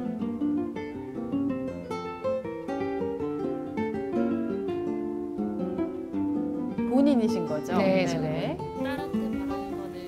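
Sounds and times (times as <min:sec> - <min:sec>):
acoustic guitar plucked melody: 0:00.0 - 0:10.0.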